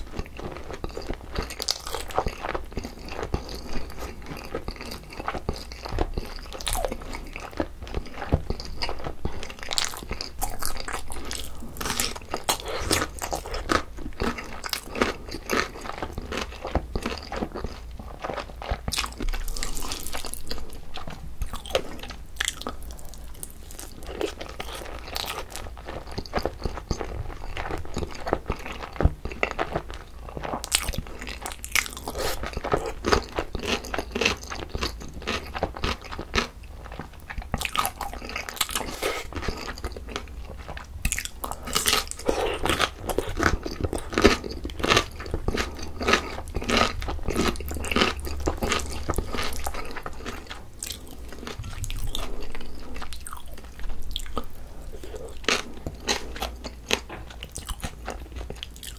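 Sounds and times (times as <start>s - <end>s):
wet chewing with crunches: 0.0s - 58.9s.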